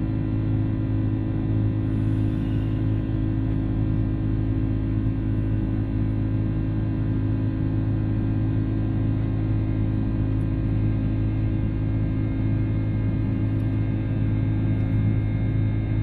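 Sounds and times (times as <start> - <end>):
jet engine drone: 0.0 - 16.0.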